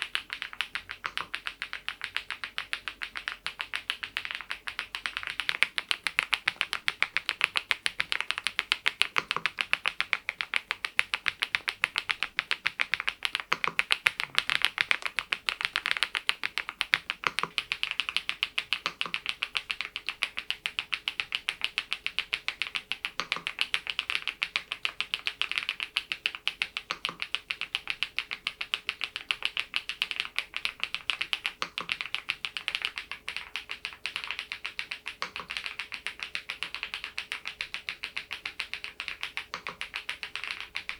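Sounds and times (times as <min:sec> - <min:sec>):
mechanical keyboard keystroke clacks: 0:00.0 - 0:40.9.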